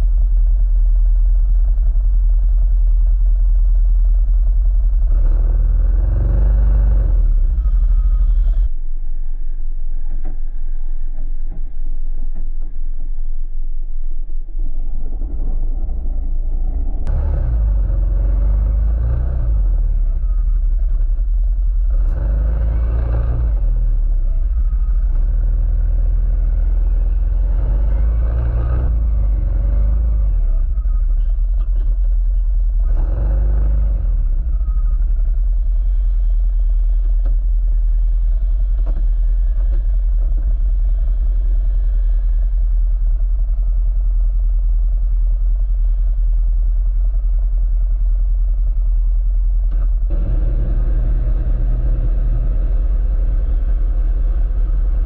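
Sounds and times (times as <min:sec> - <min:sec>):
off-road vehicle engine rumble: 0:00.0 - 0:55.0.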